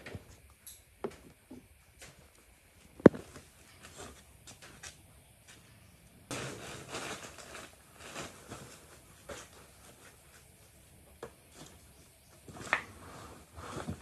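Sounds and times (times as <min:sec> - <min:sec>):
rustling and scraping: 0:01.9 - 0:14.0.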